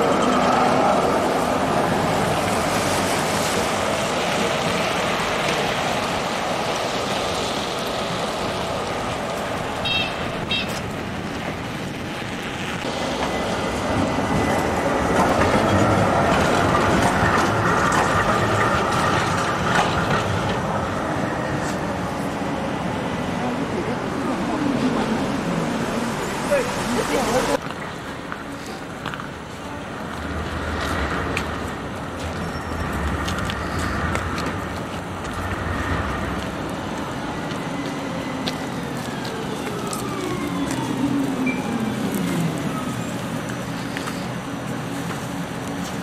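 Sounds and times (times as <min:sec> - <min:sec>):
tram running on rails: 0:00.0 - 0:46.0.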